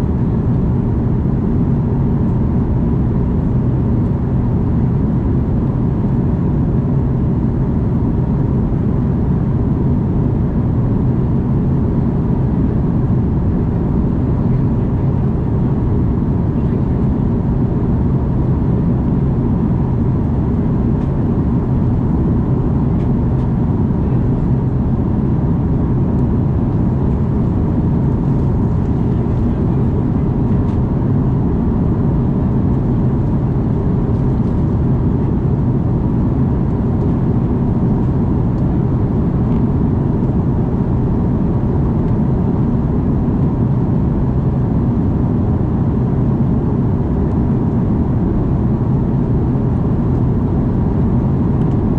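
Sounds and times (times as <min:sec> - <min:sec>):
airplane engines rumbling in cabin: 0:00.0 - 0:51.9
faint steady hum: 0:00.0 - 0:51.9.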